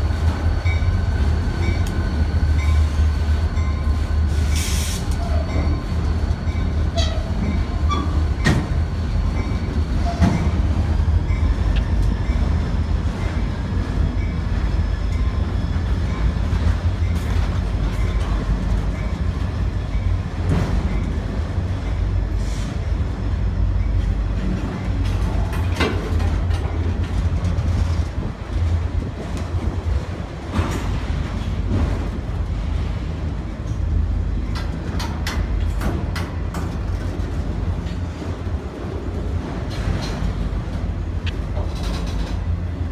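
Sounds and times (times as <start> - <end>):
train rumbling by: 0.0 - 42.9
train wheels clanking: 0.3 - 28.2, 29.2 - 42.9.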